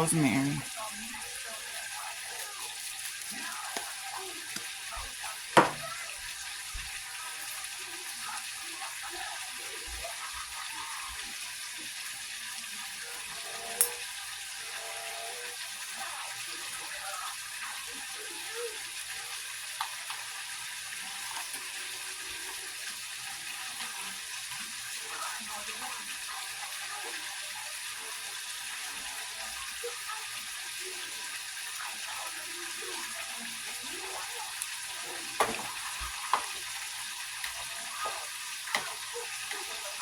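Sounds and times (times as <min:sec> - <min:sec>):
steaks sizzling in a pan: 0:00.2 - 0:40.0.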